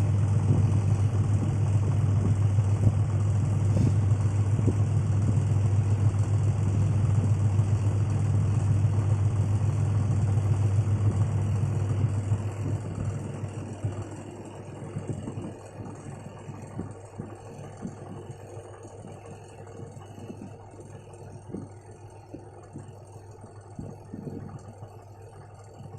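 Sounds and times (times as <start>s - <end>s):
washing machine spinning: 0.0s - 25.9s.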